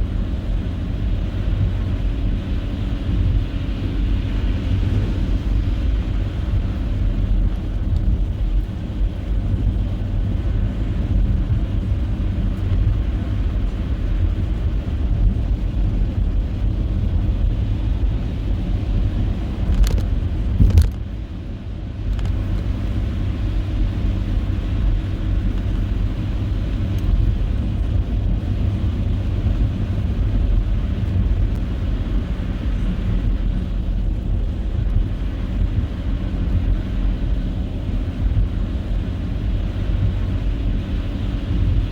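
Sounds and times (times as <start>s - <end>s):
tyres and engine rumbling: 0.0s - 41.9s.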